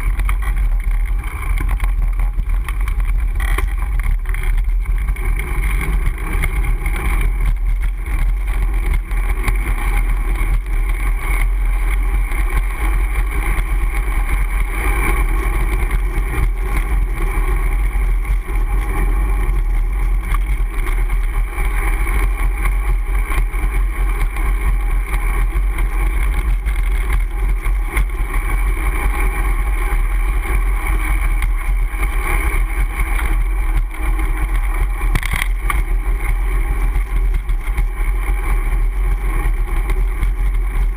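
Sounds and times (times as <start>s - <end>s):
road vibration rumble: 0.0s - 40.9s.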